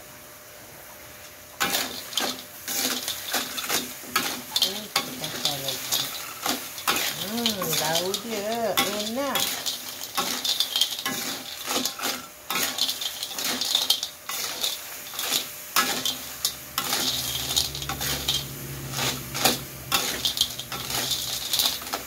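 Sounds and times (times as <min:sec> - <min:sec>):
food sizzling: 0:00.8 - 0:22.0
metal spatula scraping a wok: 0:01.6 - 0:22.0.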